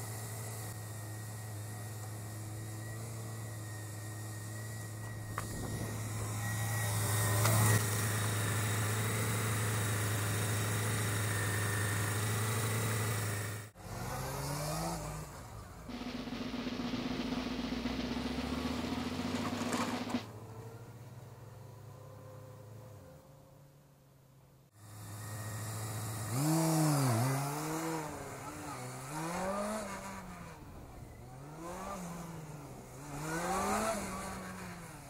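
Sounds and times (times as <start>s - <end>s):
motorcycle engine revving: 0.0s - 21.3s, 24.8s - 35.0s.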